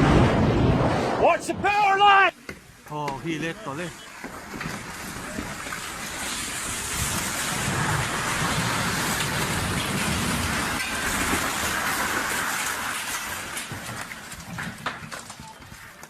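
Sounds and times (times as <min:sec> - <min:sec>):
landslide rushing downhill: 0:00.0 - 0:16.0.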